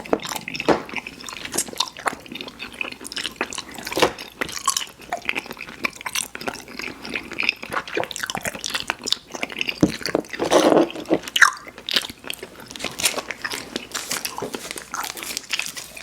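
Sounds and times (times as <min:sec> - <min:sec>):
chewing soft candy: 0:00.0 - 0:16.0.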